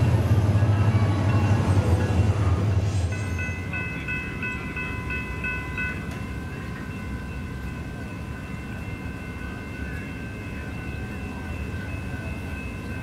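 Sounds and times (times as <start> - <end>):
crossing warning bell ringing: 0.0 - 13.0
train rumble: 0.0 - 13.0.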